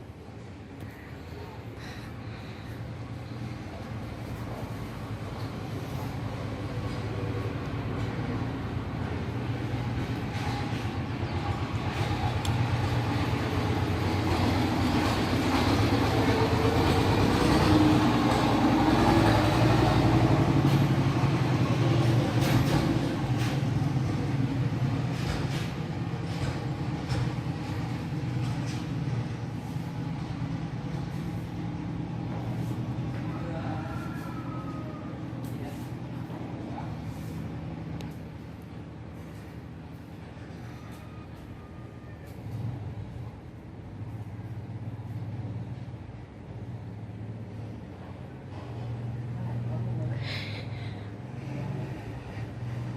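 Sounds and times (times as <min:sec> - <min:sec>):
vehicle rumbling: 0:00.0 - 0:52.9.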